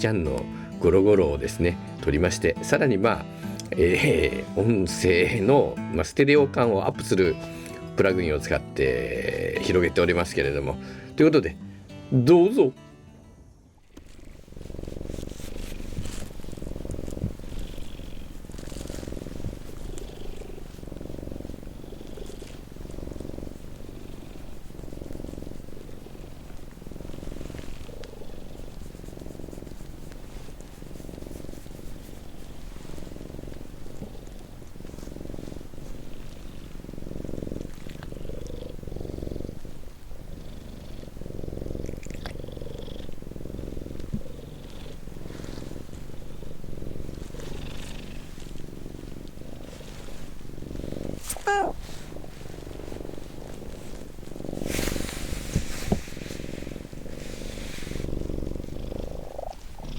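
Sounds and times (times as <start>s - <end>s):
cat purring: 0.0s - 6.2s, 6.9s - 12.7s, 13.4s - 59.9s.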